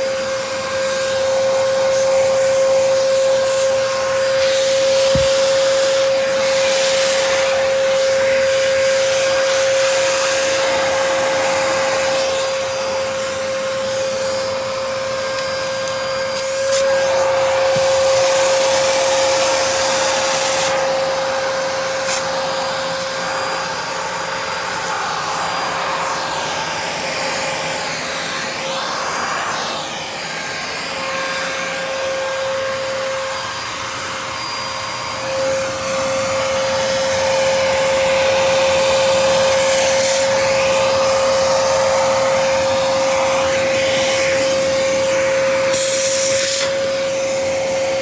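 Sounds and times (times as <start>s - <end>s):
vacuum cleaner motor whine: 0.0s - 48.0s.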